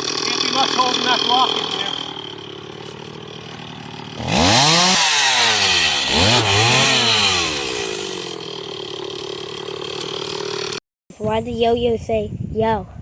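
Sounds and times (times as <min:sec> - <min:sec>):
chainsaw revving and cutting wood: 0:00.0 - 0:10.8.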